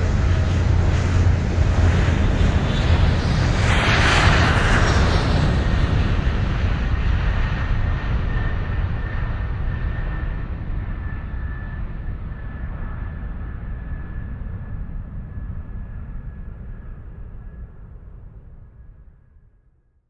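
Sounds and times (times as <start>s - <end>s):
jet aircraft roaring: 0.0s - 18.5s.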